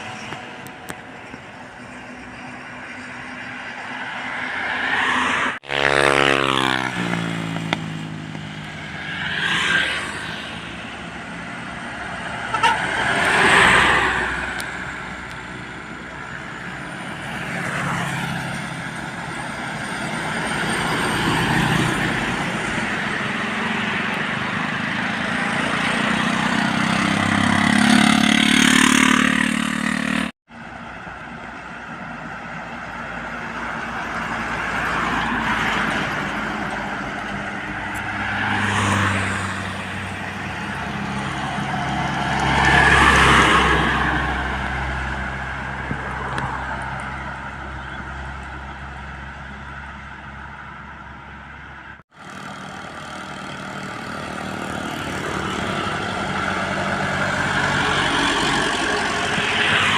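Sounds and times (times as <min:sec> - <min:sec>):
trucks and traffic passing: 0:00.0 - 0:59.9.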